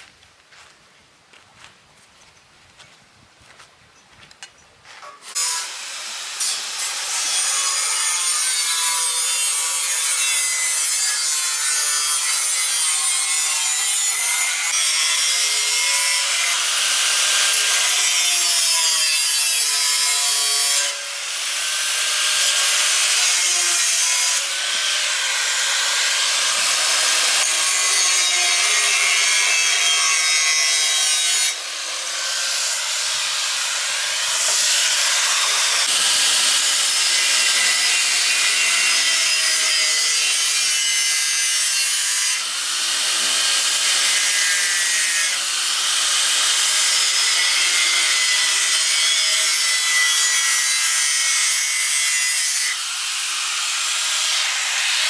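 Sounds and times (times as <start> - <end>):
power grinder grinding metal: 5.0 - 55.0.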